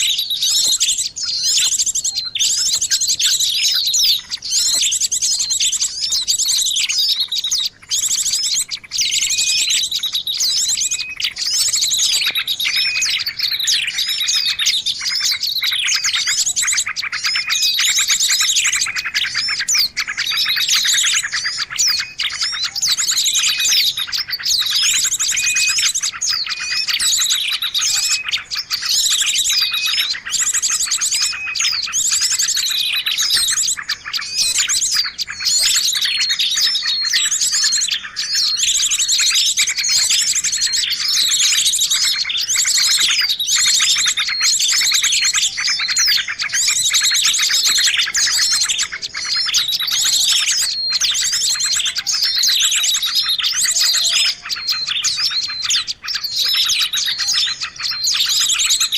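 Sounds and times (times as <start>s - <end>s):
many small birds chirping: 0.0s - 58.9s.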